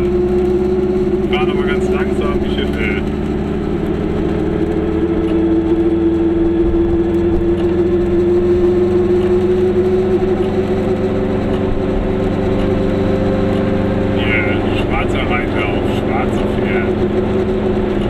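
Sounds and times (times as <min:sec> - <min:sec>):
small two-stroke car engine droning: 0:00.0 - 0:18.0.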